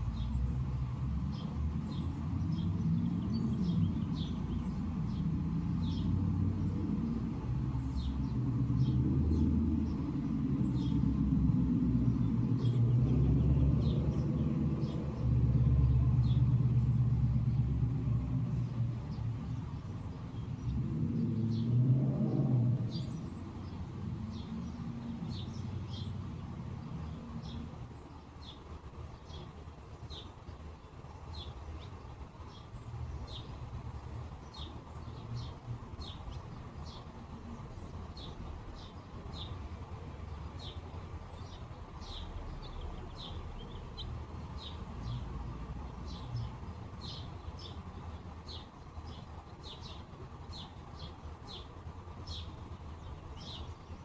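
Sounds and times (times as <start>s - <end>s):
low engine rumble: 0.0s - 54.0s
small birds chirping: 0.0s - 54.0s.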